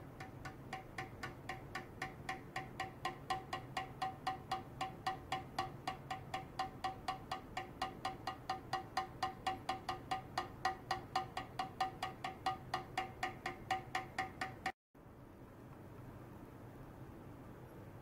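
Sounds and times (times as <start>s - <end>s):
metallic pings: 0.0s - 14.7s.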